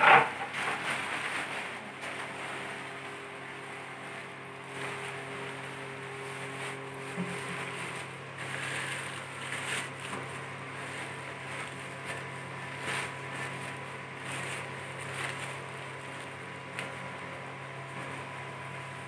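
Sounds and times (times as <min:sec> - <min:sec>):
grinding machine humming: 0:00.0 - 0:19.0.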